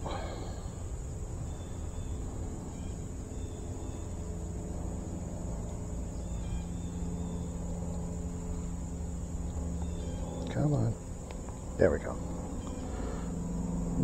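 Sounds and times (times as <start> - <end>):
distant road traffic rumble: 0.0 - 14.0
faint engine hum: 0.0 - 14.0
insects droning: 0.0 - 14.0.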